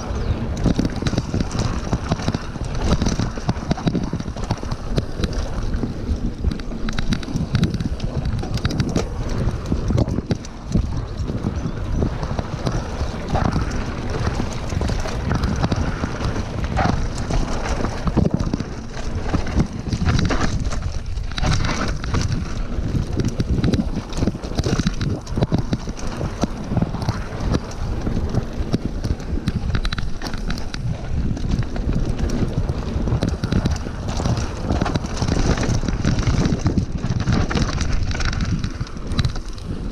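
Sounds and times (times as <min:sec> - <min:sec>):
bike rattles and knocks: 0:00.0 - 0:39.9
tyres rolling on dirt: 0:00.0 - 0:39.9
wind buffeting microphone: 0:00.0 - 0:39.9.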